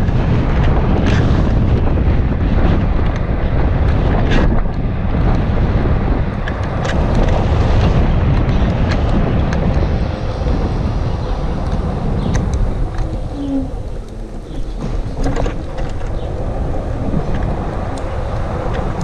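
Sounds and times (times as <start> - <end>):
tyre and road noise: 0.0 - 19.0
wind buffeting microphone: 0.0 - 19.0.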